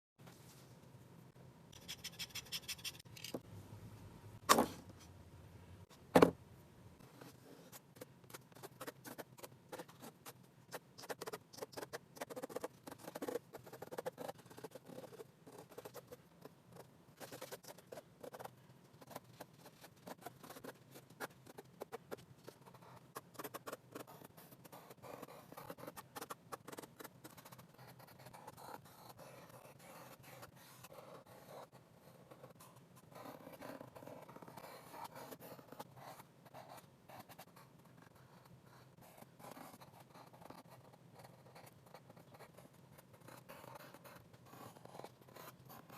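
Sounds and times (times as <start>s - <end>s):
pencil sketching on paper: 7.2s - 45.9s.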